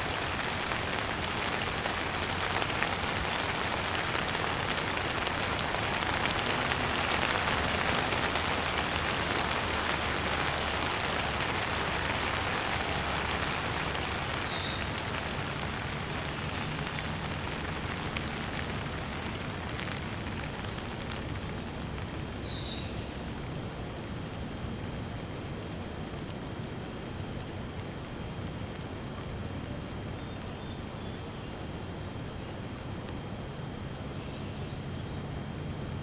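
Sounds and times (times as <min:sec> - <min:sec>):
rain pattering on surfaces: 0:00.0 - 0:30.6.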